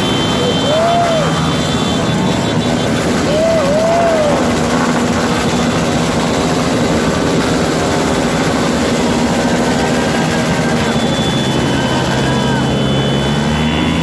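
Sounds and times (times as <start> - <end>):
motorcycle and scooter engines: 0.0 - 14.0.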